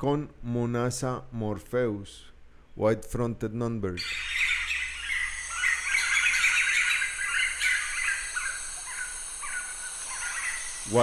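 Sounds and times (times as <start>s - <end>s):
high background hiss: 0.0s - 11.0s.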